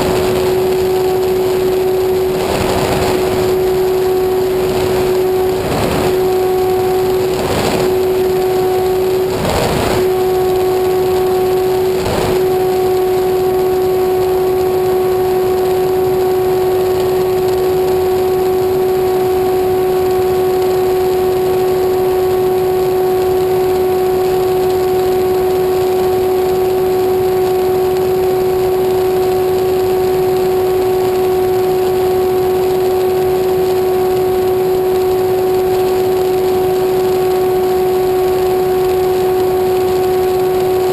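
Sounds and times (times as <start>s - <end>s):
small motor droning: 0.0s - 40.9s.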